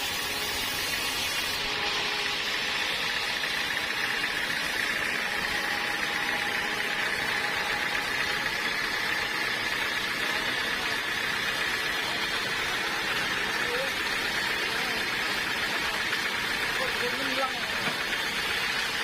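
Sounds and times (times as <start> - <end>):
sawmill machinery whine: 0.0 - 19.0.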